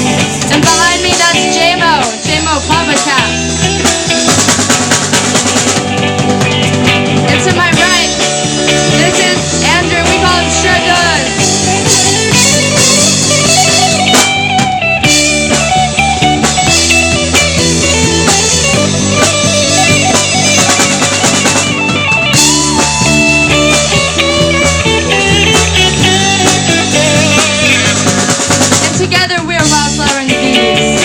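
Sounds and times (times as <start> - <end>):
drums: 0.0 - 31.0
electric guitar with bent notes: 0.0 - 31.0.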